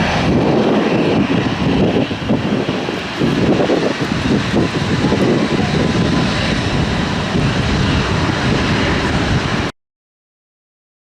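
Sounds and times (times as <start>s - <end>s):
jet engines rumbling: 0.0s - 9.7s.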